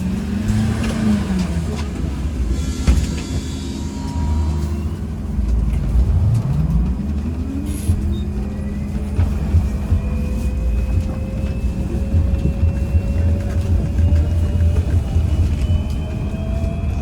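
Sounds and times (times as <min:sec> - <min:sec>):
trolleybus running rumble: 0:00.0 - 0:17.0.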